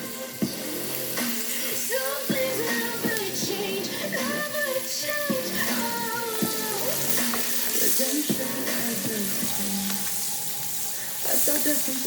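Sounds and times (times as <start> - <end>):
background music: 0.0 - 12.0
garlic sizzling in a pan: 0.0 - 12.0.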